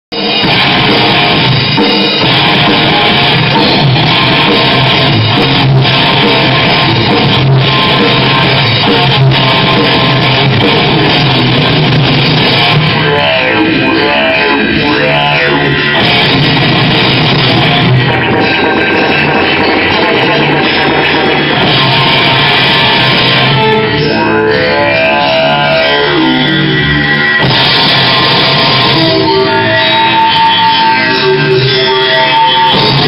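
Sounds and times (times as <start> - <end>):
electric guitar: 0.0 - 33.0
bass guitar: 0.1 - 33.0
drum kit: 0.1 - 33.0.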